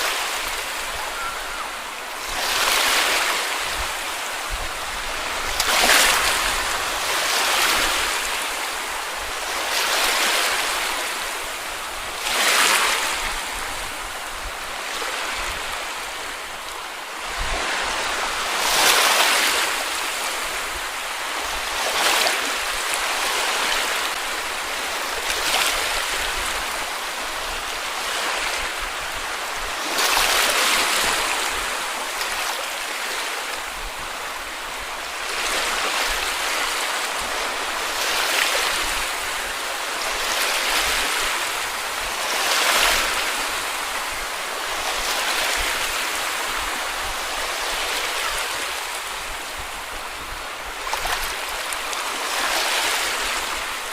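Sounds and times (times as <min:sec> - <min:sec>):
sea waves washing onto beach: 0:00.0 - 0:53.9.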